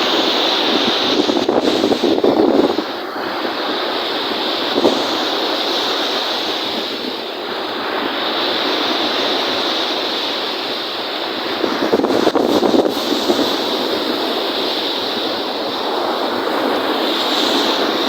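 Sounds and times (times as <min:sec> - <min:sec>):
lake waves washing in: 0:00.0 - 0:18.0.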